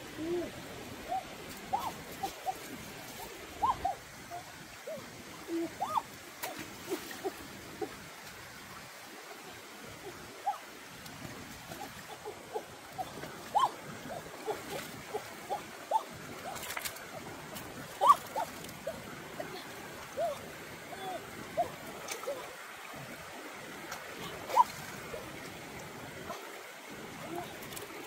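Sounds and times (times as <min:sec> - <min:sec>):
faint water splashes: 0:00.0 - 0:28.0
stream running over rocks: 0:00.0 - 0:28.0.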